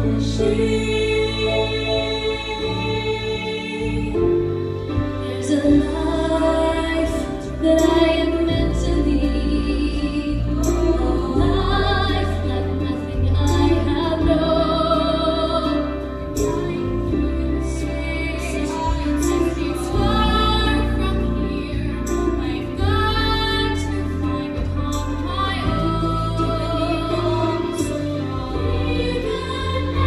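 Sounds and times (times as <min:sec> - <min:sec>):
choir singing in harmony: 0:00.0 - 0:30.0
low bass notes: 0:00.0 - 0:30.0.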